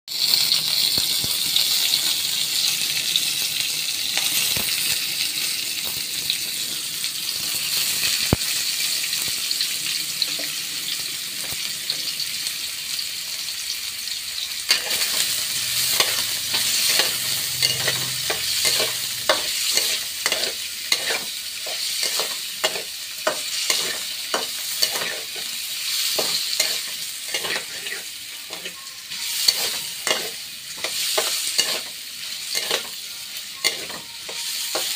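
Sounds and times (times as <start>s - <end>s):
sugar sauce sizzling and bubbling: 0.1s - 34.9s.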